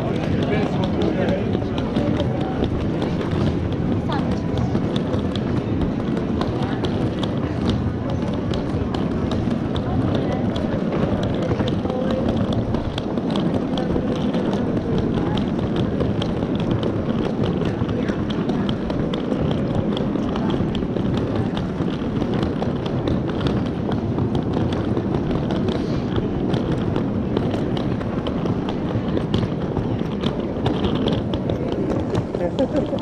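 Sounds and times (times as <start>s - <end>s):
footsteps on stone paving: 0.0s - 33.0s
murmur of people talking: 0.0s - 33.0s.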